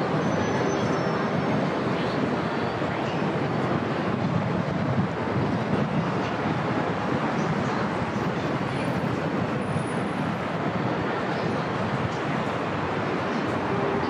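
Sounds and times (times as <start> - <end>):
rail traffic: 0.0 - 14.0
vehicle traffic: 0.0 - 14.0.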